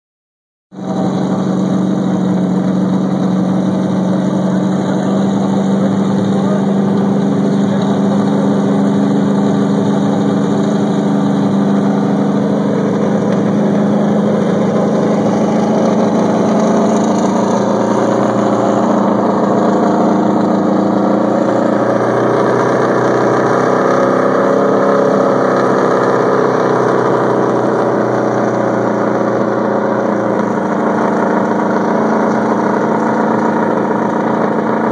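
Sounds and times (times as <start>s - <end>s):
race car engine idling: 0.8s - 34.9s.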